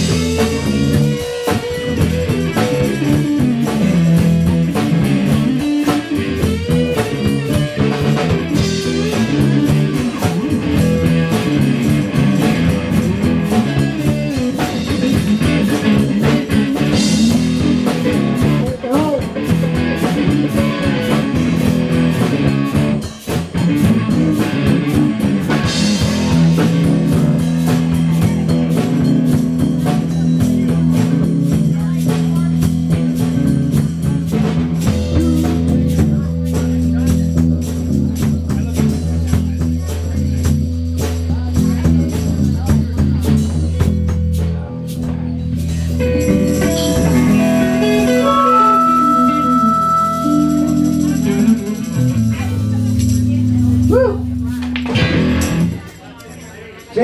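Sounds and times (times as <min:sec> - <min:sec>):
electric guitar: 0:00.0 - 0:39.1, 0:44.9 - 0:55.9
live rock band playing: 0:00.0 - 0:56.0.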